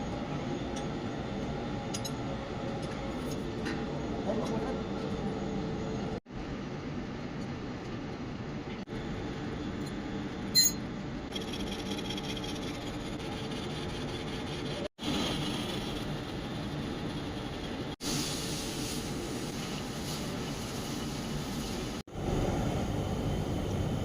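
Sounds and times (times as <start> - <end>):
workshop machinery drone: 0.0 - 24.0.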